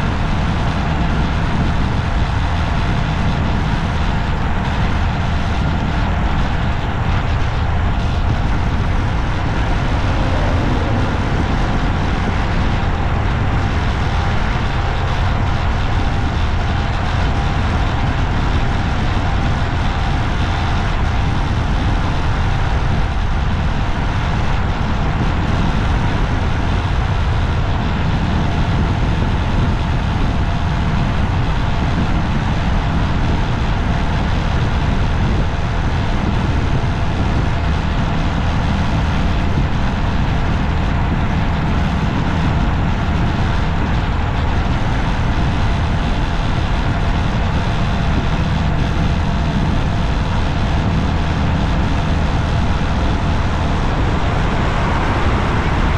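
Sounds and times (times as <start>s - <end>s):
road vehicle driving rumble: 0.0s - 55.9s.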